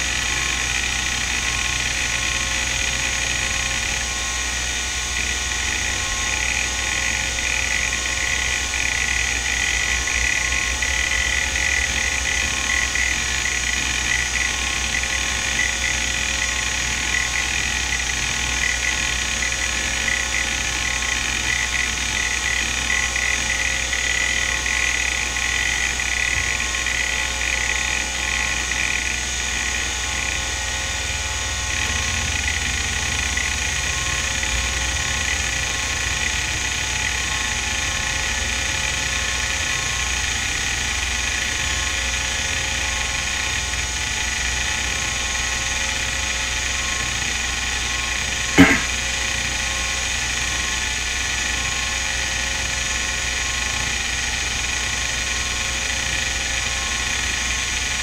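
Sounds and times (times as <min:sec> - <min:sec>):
hard drive whine: 0:00.0 - 0:58.0.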